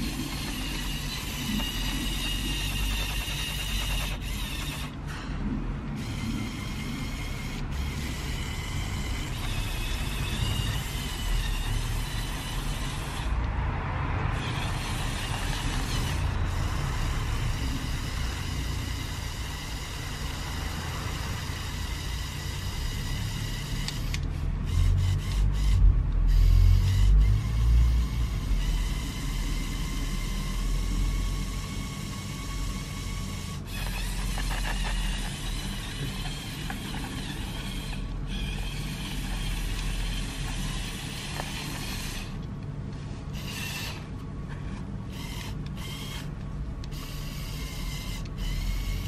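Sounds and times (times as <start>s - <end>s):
toy electric motors whining: 0.0s - 49.0s.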